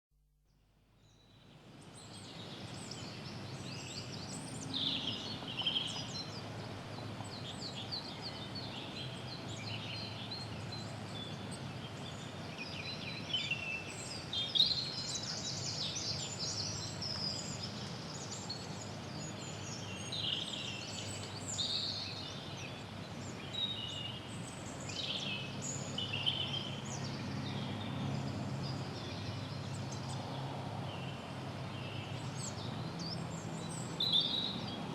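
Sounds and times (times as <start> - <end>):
songbirds singing and chirping: 1.0 - 34.9.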